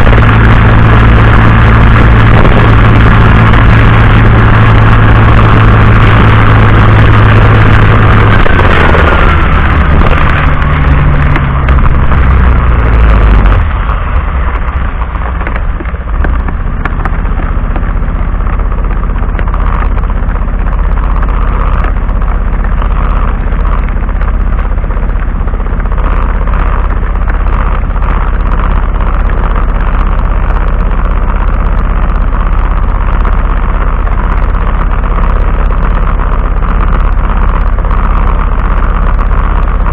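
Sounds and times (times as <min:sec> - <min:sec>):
falling tone: 0:00.0 - 0:38.7
car engine and road rumble: 0:00.0 - 0:39.9.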